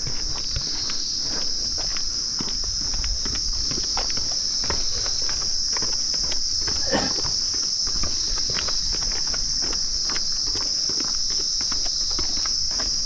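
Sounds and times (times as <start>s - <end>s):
footsteps on concrete steps: 0.0s - 13.0s
insects droning: 0.0s - 13.0s.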